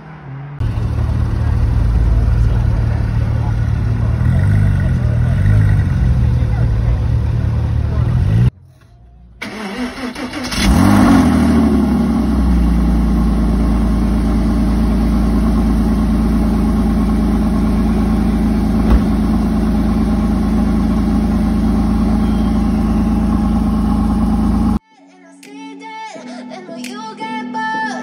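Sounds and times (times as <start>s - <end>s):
car engine starting and idling: 0.6s - 24.8s.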